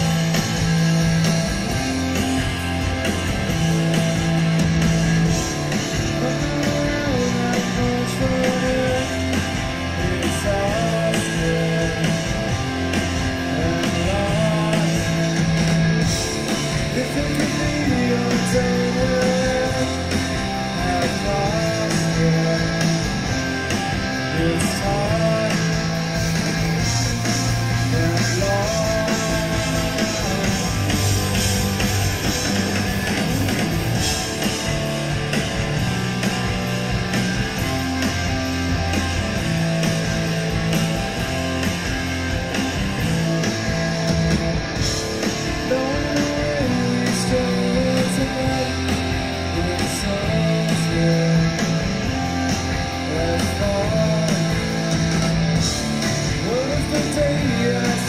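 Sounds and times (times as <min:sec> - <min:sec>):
bass guitar held notes: 0:00.0 - 0:58.0
live rock band: 0:00.0 - 0:58.0.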